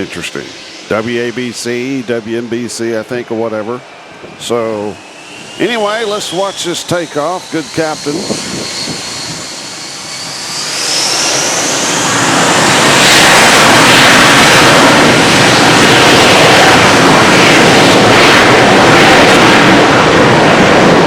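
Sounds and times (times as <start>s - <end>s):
jet engines whining and roaring: 0.0s - 21.0s.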